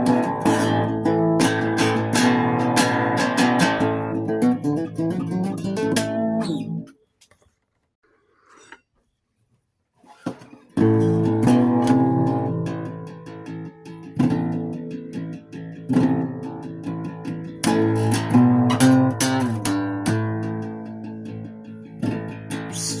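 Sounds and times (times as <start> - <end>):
solo guitar chords: 0.0 - 6.9, 10.8 - 23.0.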